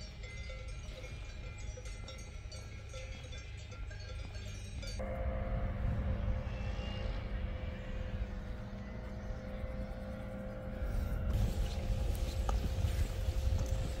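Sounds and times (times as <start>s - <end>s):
steady engine drone: 0.0s - 14.0s.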